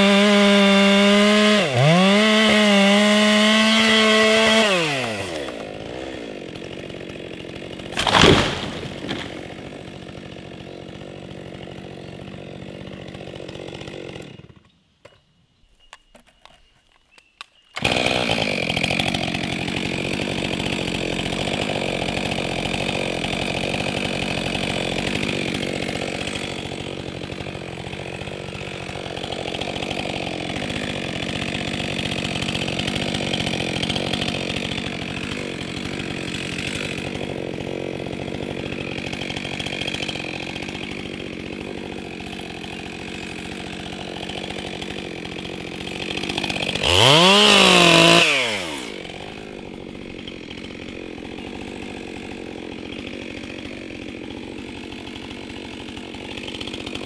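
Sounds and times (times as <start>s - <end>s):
chainsaw cutting wood: 0.0s - 15.2s, 15.9s - 57.0s.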